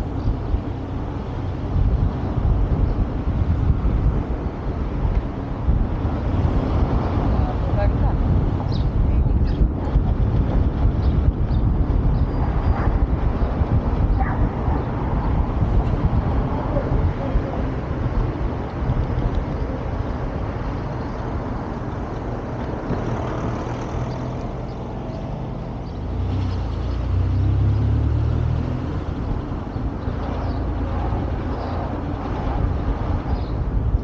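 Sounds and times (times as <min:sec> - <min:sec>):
road traffic noise: 0:00.0 - 0:34.0
vehicle passing rumble: 0:00.0 - 0:34.0.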